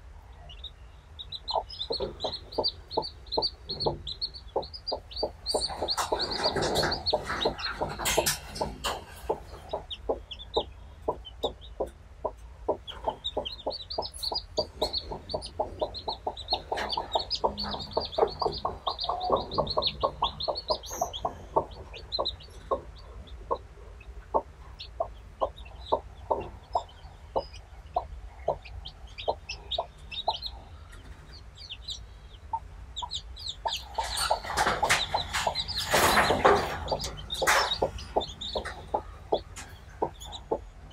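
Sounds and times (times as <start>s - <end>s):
chicks peeping: 0.0s - 40.9s
hen clucking softly: 0.4s - 40.9s.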